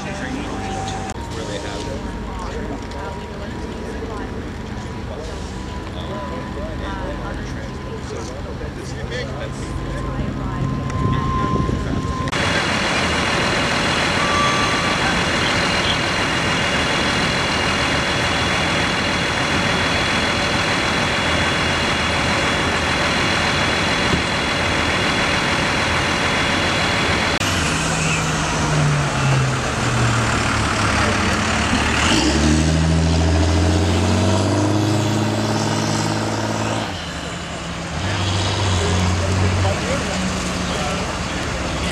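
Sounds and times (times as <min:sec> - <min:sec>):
heavy diesel engines running: 0:00.0 - 0:41.9
street noise: 0:00.0 - 0:41.9
truck engine: 0:00.0 - 0:41.9.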